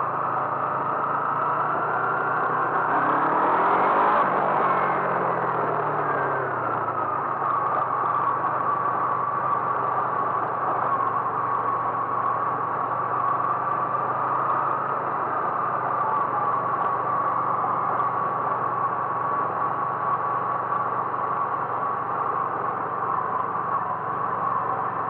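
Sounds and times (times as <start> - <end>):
high engine whine: 0.0 - 25.0
vehicle engine hum: 0.0 - 25.0.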